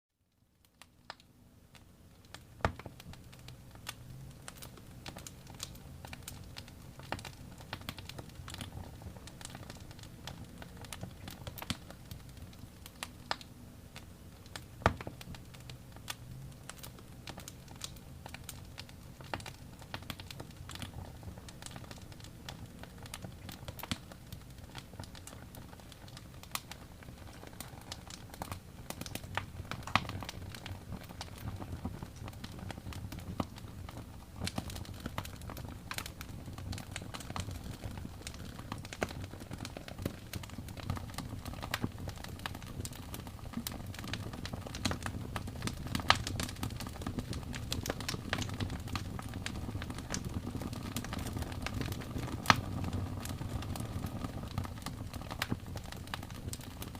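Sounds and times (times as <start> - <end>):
wood fire crackling: 0.6 - 56.9.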